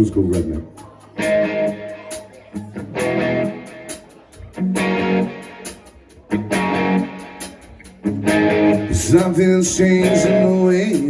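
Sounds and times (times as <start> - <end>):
country band guitar chords: 0.0 - 11.0
high ticks keeping time: 0.0 - 11.0.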